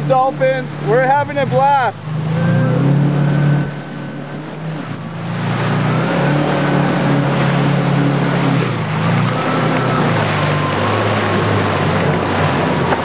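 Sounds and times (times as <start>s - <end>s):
personal watercraft engine hum: 0.0s - 13.0s
wind: 0.0s - 13.0s.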